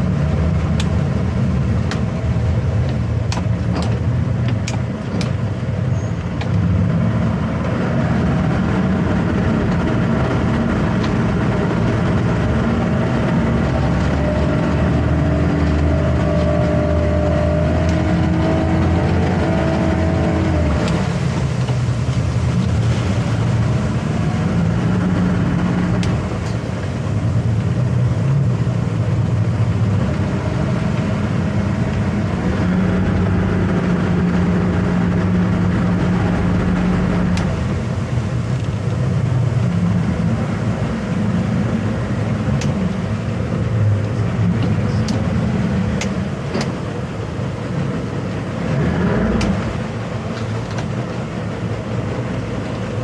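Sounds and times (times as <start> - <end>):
outboard motors droning: 0.0 - 53.0
prop wash churning: 0.0 - 53.0.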